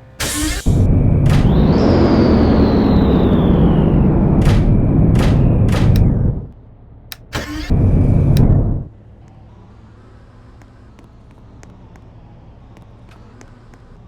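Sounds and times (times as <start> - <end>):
car engine starting and idling: 0.0 - 14.0.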